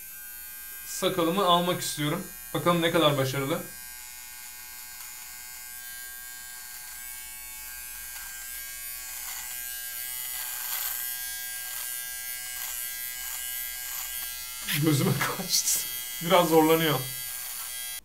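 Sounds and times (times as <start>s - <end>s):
beard trimmer buzzing: 0.0s - 18.0s
rasp of clipping hair: 0.0s - 18.0s.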